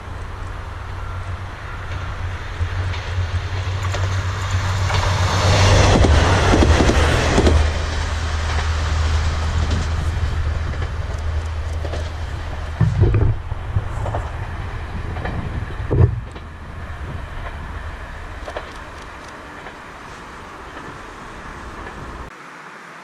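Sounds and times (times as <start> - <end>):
distant diesel railcar running: 0.0 - 22.3.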